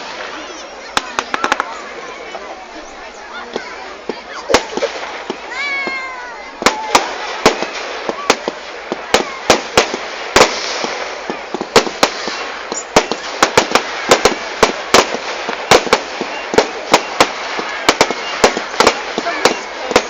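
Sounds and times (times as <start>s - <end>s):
crackling hiss: 0.0s - 20.0s
fireworks bangs: 0.0s - 20.0s.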